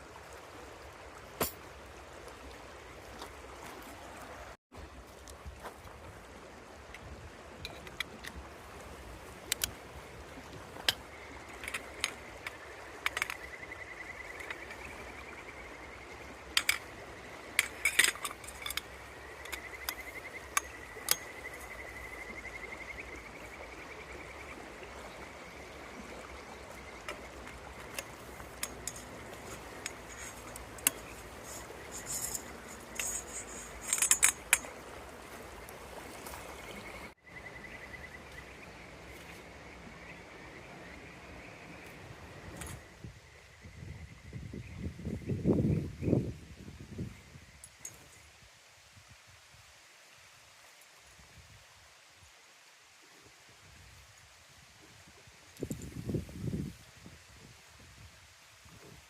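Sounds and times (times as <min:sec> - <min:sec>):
river running: 0:00.0 - 0:59.0.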